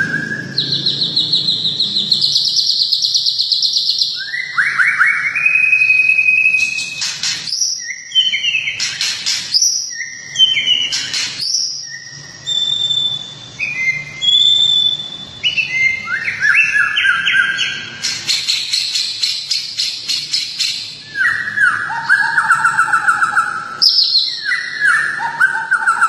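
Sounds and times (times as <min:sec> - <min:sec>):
songbird whistled notes: 0:00.0 - 0:26.0.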